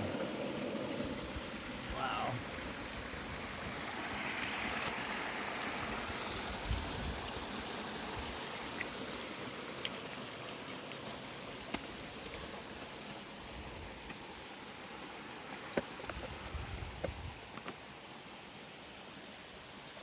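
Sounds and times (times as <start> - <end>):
river water running over rocks: 0.0 - 20.0.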